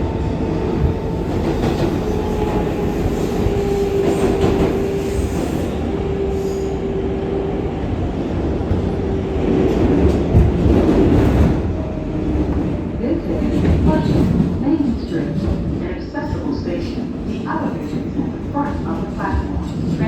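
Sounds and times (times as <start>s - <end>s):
train wheel and track rumble: 0.0s - 20.0s.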